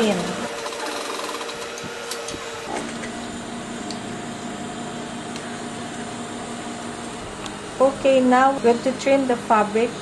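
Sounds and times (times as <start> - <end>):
sewing machine electric hum: 0.0 - 10.0.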